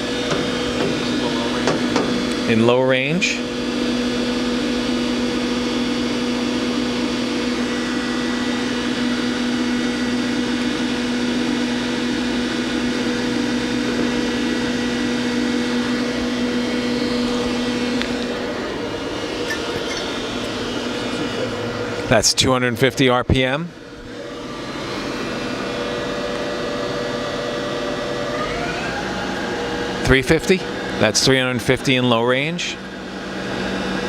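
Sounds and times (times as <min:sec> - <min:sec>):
lathe spindle hum and whine: 0:00.0 - 0:34.0.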